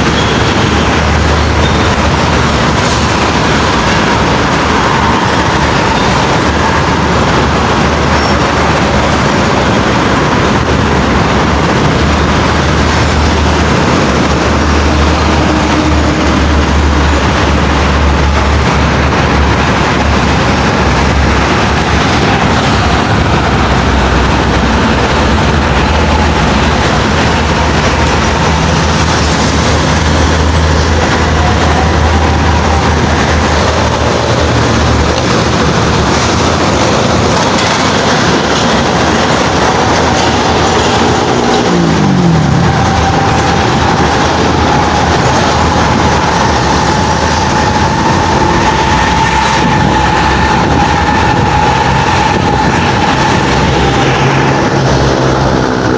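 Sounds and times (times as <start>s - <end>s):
diesel truck engine rumble: 0.0s - 55.9s
road and tyre noise: 0.0s - 55.9s.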